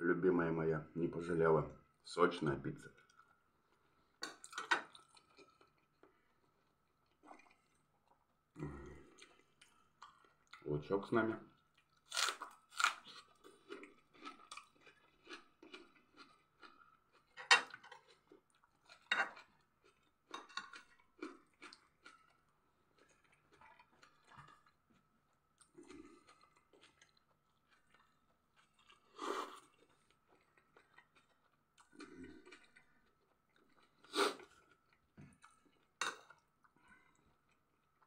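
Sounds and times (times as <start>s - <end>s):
chewing and crunching food: 2.8s - 38.0s.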